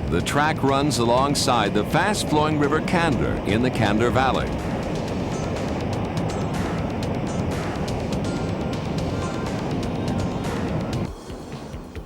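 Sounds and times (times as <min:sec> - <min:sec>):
background music: 0:00.0 - 0:12.0
train running on tracks: 0:00.0 - 0:12.0.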